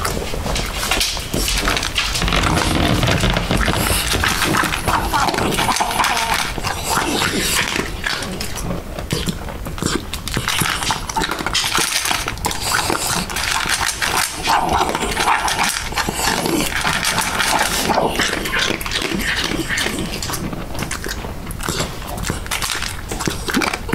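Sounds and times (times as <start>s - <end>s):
dog chewing kibble: 0.0s - 23.9s
dog vocal noises: 0.0s - 23.9s.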